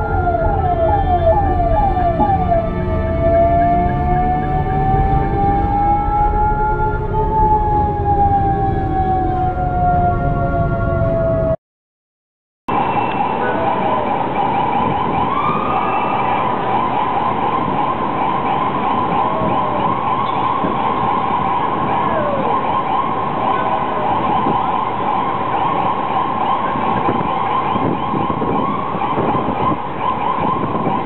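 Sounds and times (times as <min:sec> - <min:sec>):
ambulance siren: 0:00.0 - 0:11.6, 0:12.7 - 0:31.0
street traffic din: 0:00.0 - 0:11.6, 0:12.7 - 0:31.0.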